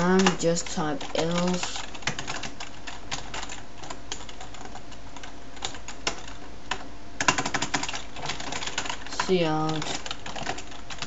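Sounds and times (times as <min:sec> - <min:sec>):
computer keyboard keys clacking: 0:00.0 - 0:11.0.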